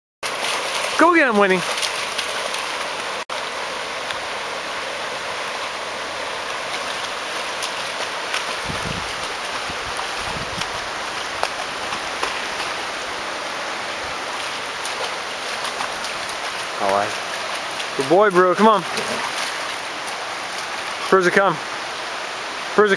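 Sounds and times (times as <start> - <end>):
river rushing: 0.2 - 22.9.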